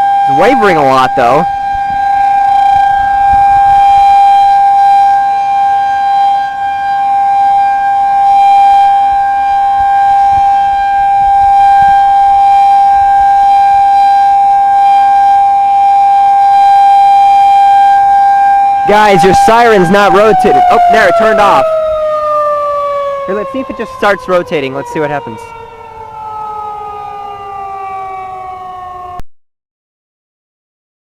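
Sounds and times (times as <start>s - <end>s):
siren steady tone: 0.0s - 29.2s.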